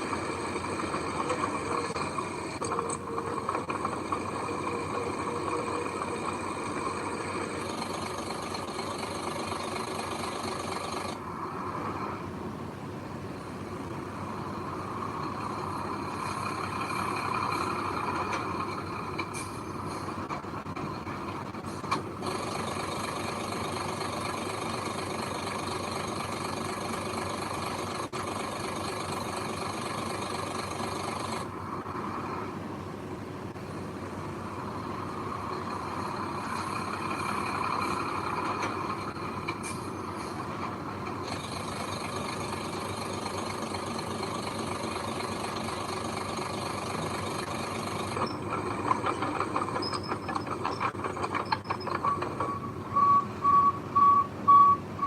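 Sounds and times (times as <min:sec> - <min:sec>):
heavy machine engine running: 0:00.0 - 0:55.0.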